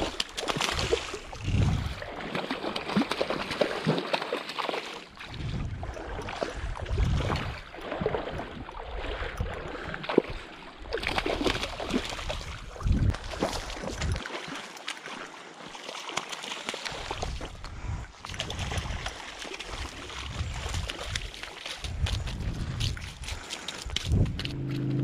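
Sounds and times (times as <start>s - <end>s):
fish splashing in shallow water: 0.0s - 24.9s.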